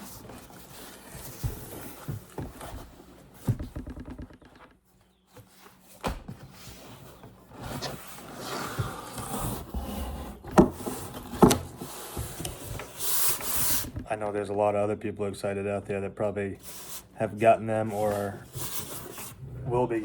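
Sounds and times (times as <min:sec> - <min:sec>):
cardboard rustling and scraping: 0:00.0 - 0:14.1, 0:17.7 - 0:20.0.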